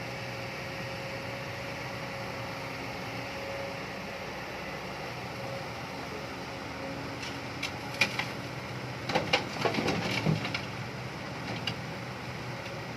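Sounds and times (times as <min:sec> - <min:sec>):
excavator engine running: 0:00.0 - 0:12.9.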